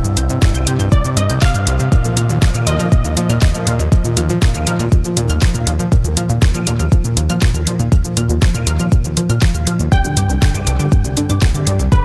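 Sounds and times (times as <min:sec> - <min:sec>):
electronic dance music: 0:00.0 - 0:12.0
kick drum: 0:00.0 - 0:12.0.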